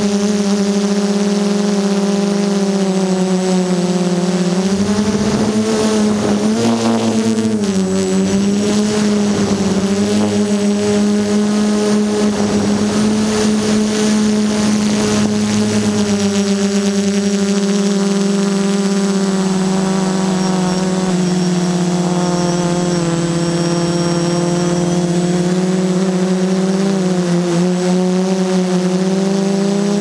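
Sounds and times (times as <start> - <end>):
quadcopter propellers buzzing: 0.0 - 30.0.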